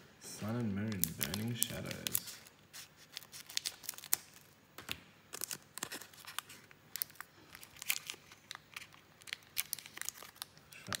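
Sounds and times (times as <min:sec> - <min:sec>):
foil wrapper crinkling: 0:00.8 - 0:04.6, 0:05.3 - 0:11.0.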